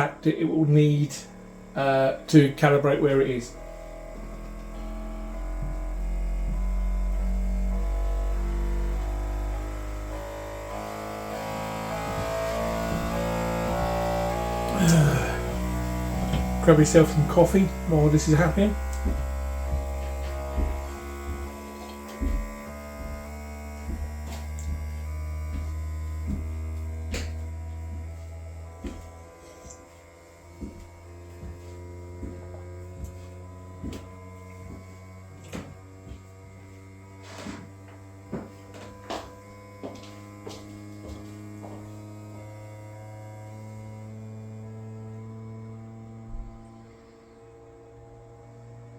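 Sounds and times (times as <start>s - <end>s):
printer motors humming and buzzing: 0.0s - 48.9s.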